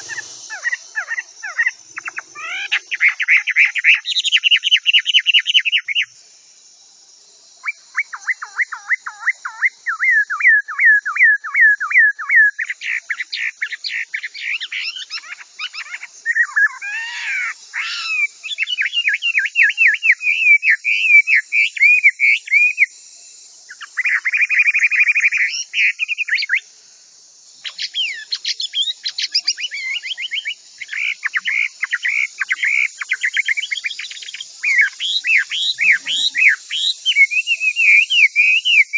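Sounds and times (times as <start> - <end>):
bird singing whistled notes: 0.0 - 6.2, 7.6 - 23.0, 23.7 - 26.7, 27.6 - 38.9
faint steady hiss: 0.0 - 10.5, 12.6 - 38.9.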